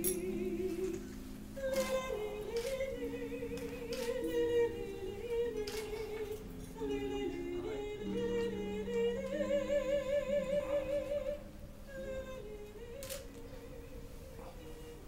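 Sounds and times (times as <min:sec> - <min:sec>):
melody sung with strong vibrato: 0:00.0 - 0:15.0.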